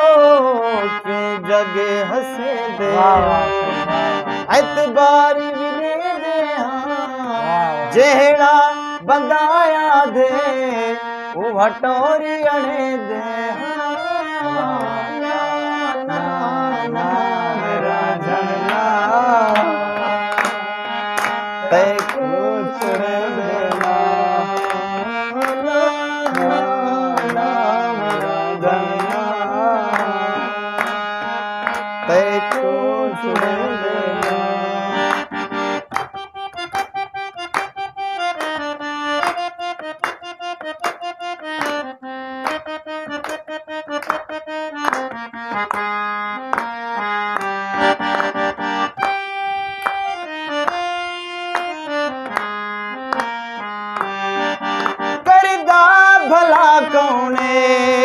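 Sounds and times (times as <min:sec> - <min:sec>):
harmonium melody: 0:00.0 - 0:58.0.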